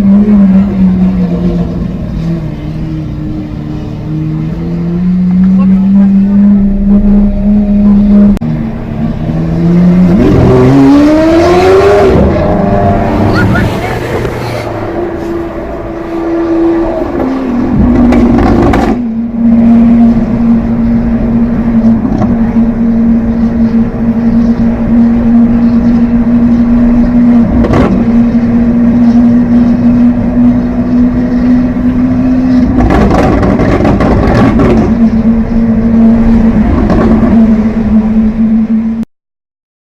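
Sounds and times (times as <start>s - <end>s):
rushing noise: 3.6s - 39.0s.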